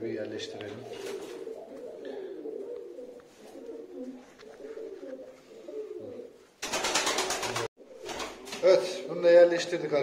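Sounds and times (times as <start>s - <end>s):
pigeons cooing: 0.0s - 9.4s.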